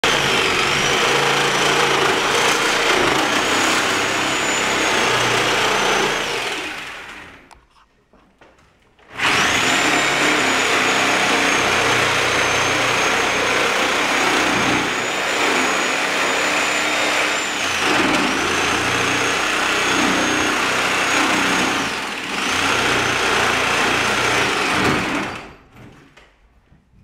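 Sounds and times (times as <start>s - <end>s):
power tool grinding wood: 0.0s - 7.6s, 9.1s - 25.6s.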